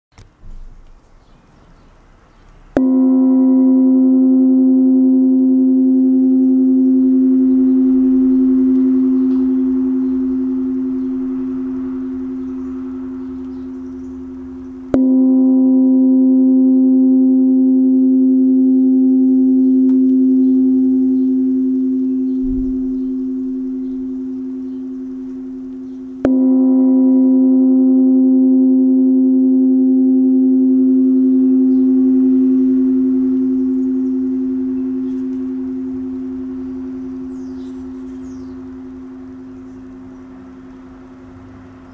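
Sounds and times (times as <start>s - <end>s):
gong struck and ringing: 2.8s - 41.9s.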